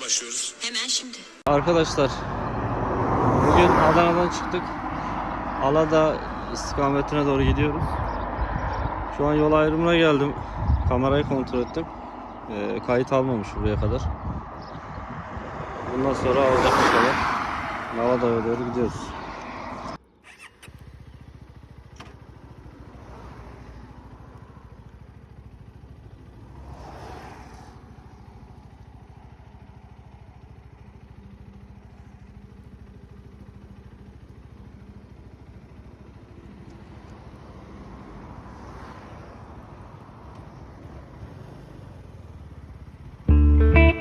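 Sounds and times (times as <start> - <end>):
motorcycle engine running: 1.5 - 15.9, 17.2 - 44.0.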